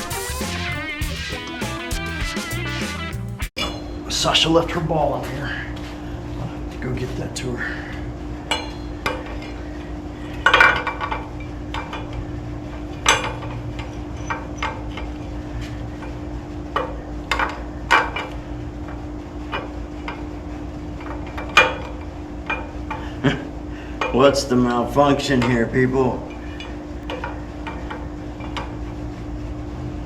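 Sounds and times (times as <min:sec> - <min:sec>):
steady low hum: 0:03.2 - 0:30.0.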